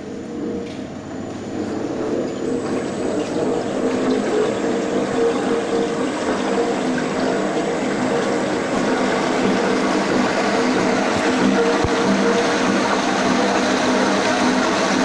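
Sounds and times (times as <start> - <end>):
mixer motor whirring hum: 0.0 - 15.0.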